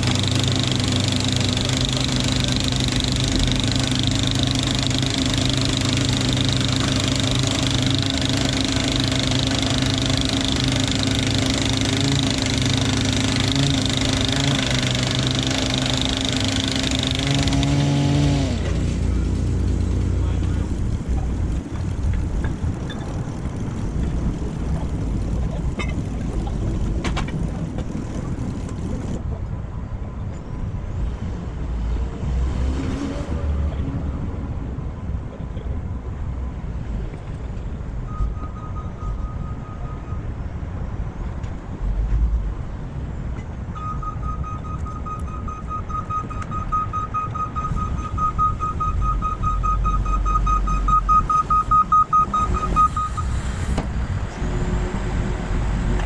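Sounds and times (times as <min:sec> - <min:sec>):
engine rumbling: 0:00.0 - 0:39.7, 0:44.5 - 0:56.0.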